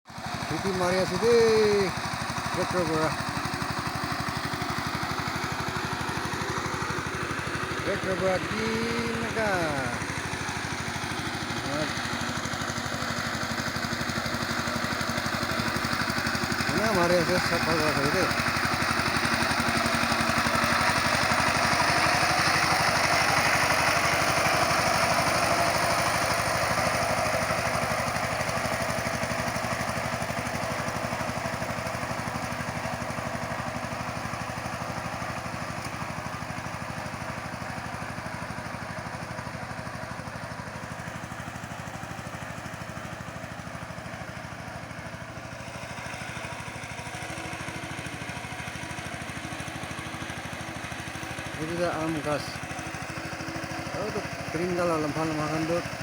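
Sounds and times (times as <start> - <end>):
tractor engine running under load: 0.1 - 56.0.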